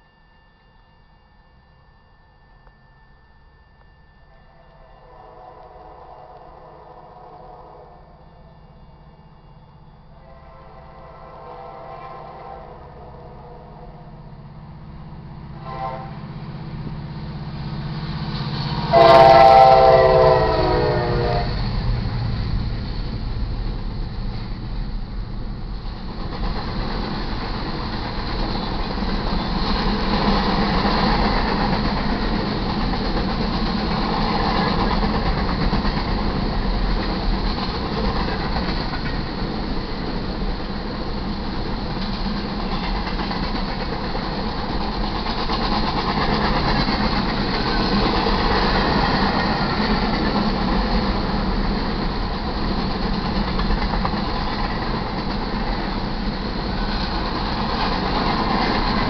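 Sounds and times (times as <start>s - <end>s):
freight train wheels rumbling: 2.6s - 59.0s.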